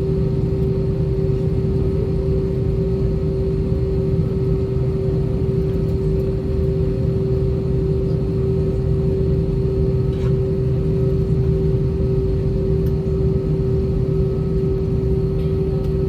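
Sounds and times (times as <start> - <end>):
aircraft cabin drone: 0.0 - 16.0.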